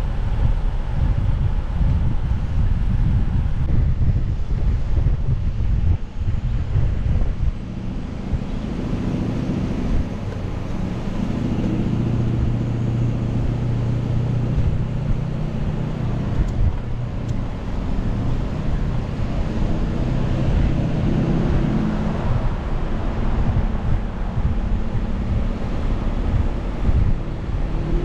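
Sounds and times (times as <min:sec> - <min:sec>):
car driving hum: 0:00.0 - 0:28.0
wind rushing over microphone: 0:00.0 - 0:28.0.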